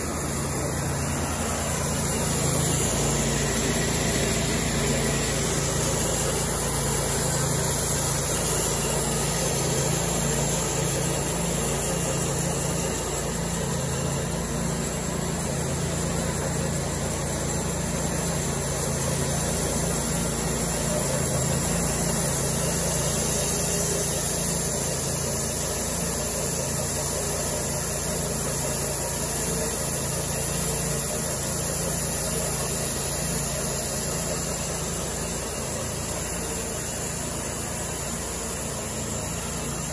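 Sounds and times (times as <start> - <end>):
bandsaw mill sawing a log: 0.0 - 39.9.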